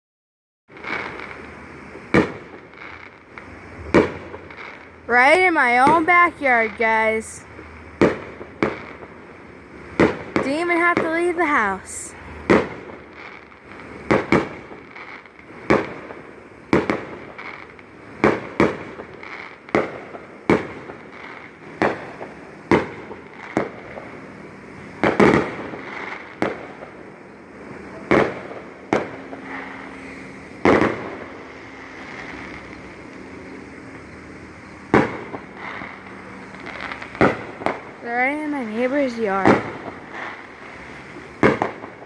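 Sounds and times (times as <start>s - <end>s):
fireworks banging: 0.7s - 42.0s.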